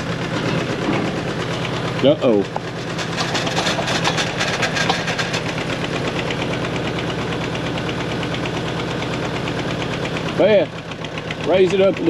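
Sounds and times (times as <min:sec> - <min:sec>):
engine idling with ticking clatter: 0:00.0 - 0:12.0.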